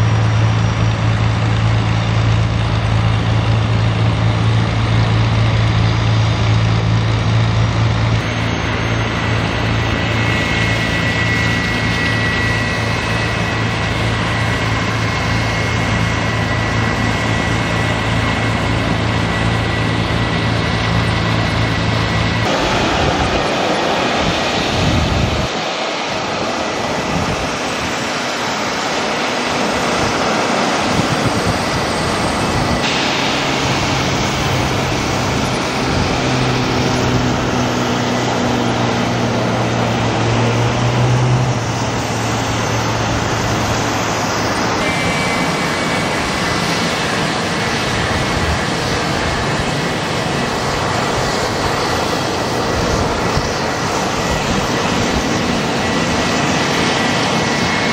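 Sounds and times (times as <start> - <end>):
jet engines whining: 0.0 - 57.9
propeller airplane engine drone: 0.0 - 57.9.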